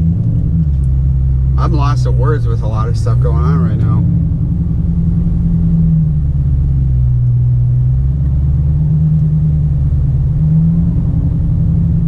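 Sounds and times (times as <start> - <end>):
car engine running: 0.0 - 12.0
road rumble: 0.0 - 12.0.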